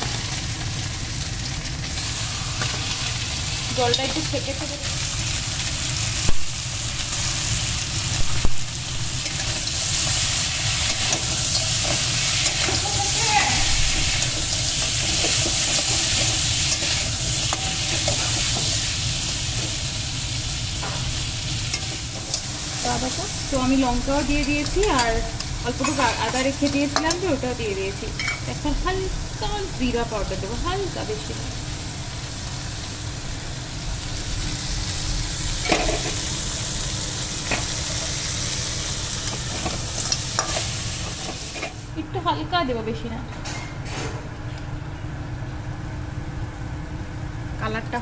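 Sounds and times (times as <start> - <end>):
crab frying in hot oil: 0.0 - 42.0.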